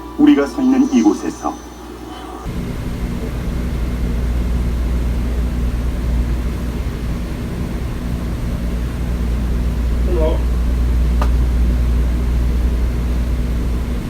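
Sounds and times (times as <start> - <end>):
low droning hum: 0.0 - 14.0
deep engine-like rumble: 2.2 - 14.0.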